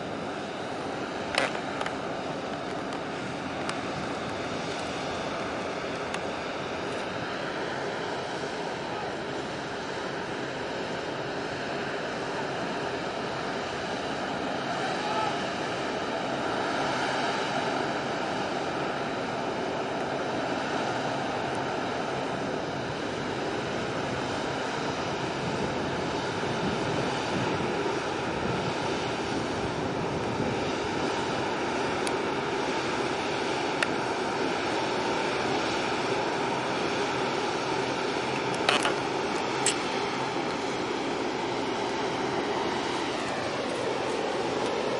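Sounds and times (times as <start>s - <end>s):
ship machinery rumble and hum: 0.0s - 44.9s
wind: 0.0s - 44.9s.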